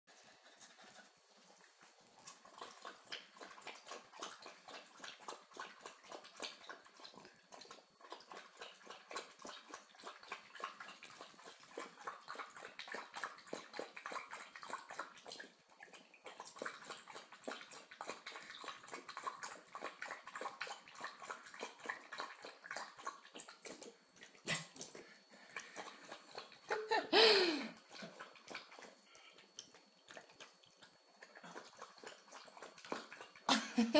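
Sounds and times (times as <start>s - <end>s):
dog lapping water: 0.1s - 33.6s.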